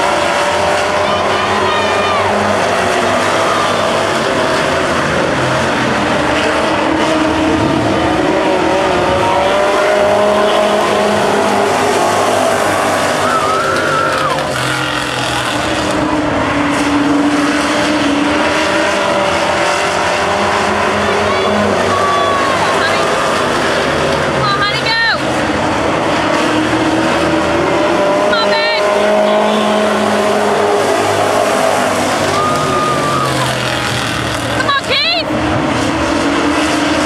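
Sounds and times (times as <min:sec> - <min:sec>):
race car engines: 0:00.0 - 0:37.0.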